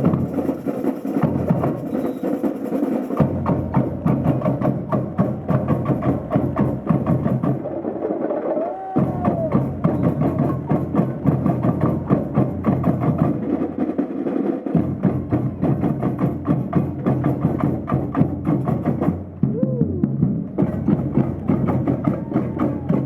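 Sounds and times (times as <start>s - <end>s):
samba drumming: 0.0s - 23.0s.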